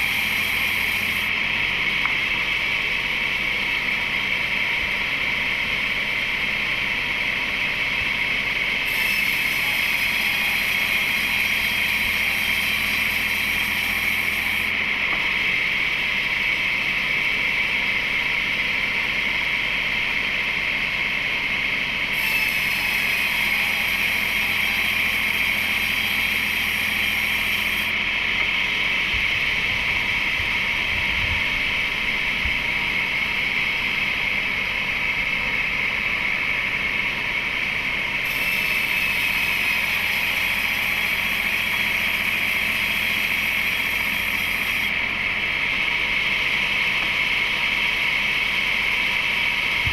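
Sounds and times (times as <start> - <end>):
heavy machinery running: 0.0 - 49.9.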